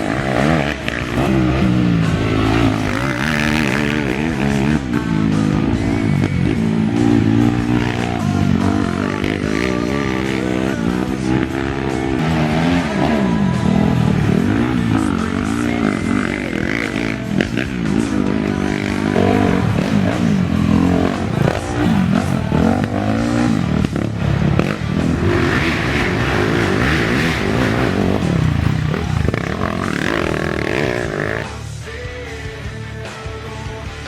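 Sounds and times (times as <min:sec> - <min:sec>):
atv engines revving: 0:00.0 - 0:34.0.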